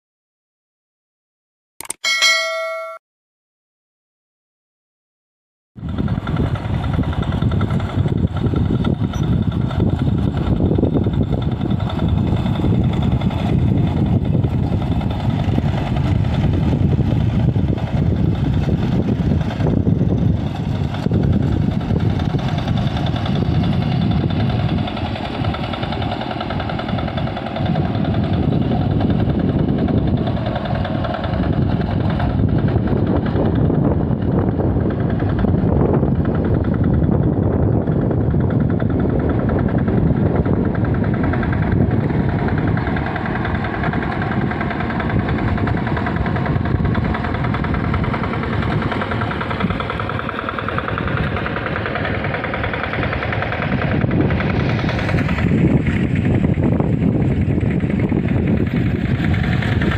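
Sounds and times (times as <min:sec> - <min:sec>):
tractor engine chugging: 0:05.8 - 0:59.9.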